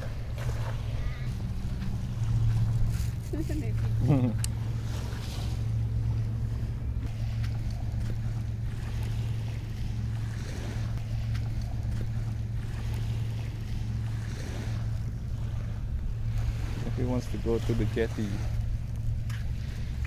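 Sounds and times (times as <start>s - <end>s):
low drone: 0.0s - 20.0s.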